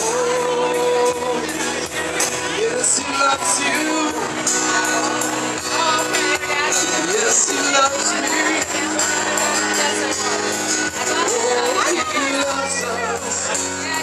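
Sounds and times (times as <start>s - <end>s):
percussion: 0.0s - 14.0s
person singing: 0.0s - 14.0s
worship band music: 0.0s - 14.0s.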